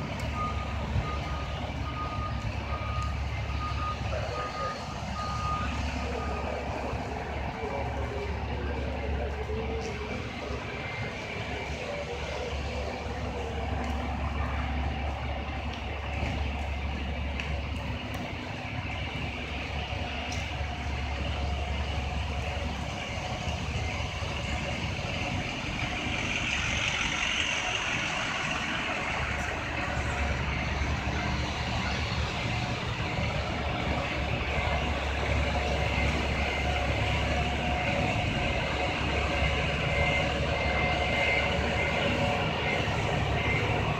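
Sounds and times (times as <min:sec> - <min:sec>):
diesel engines idling: 0:00.0 - 0:43.9.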